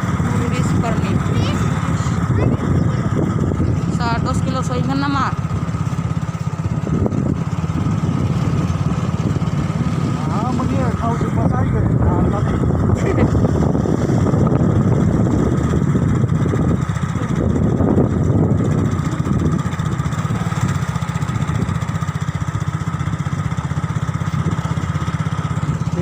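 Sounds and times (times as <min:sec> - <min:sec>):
road and wind noise: 0:00.0 - 0:26.0
vehicle engine humming: 0:00.0 - 0:26.0.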